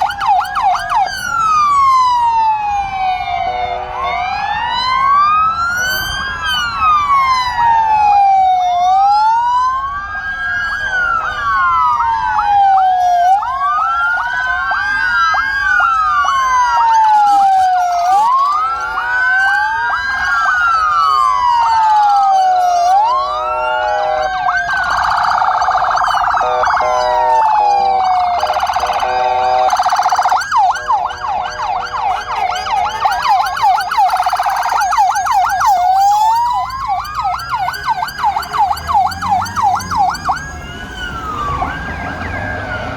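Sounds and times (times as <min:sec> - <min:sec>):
many police sirens wailing: 0:00.0 - 0:42.9.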